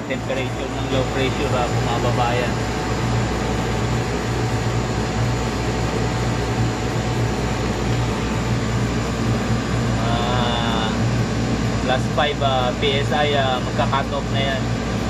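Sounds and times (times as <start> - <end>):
compressor hum: 0.0 - 15.0
condenser fan air noise: 0.0 - 15.0.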